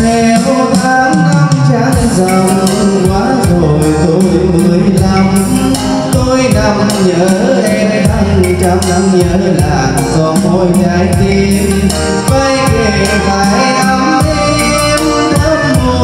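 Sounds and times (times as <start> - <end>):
karaoke backing track: 0.0 - 16.0
man singing into a microphone: 0.0 - 16.0.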